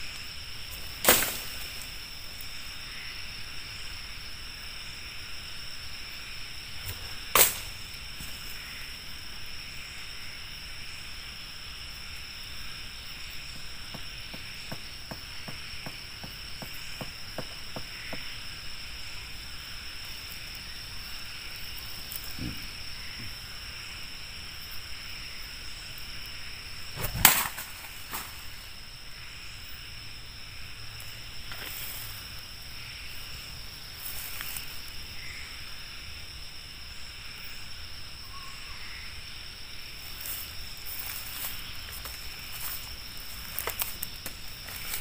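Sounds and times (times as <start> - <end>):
crickets buzzing: 0.0 - 45.0.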